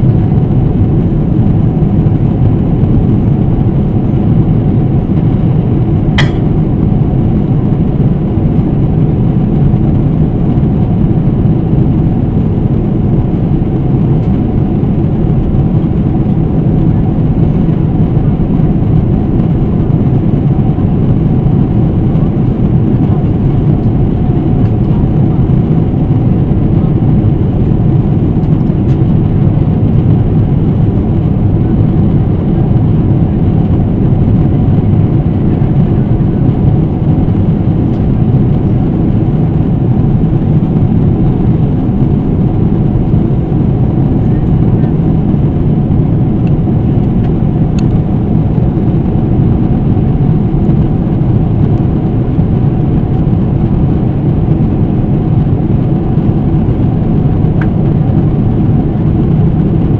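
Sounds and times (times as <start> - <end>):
airplane cabin drone: 0.0 - 59.9.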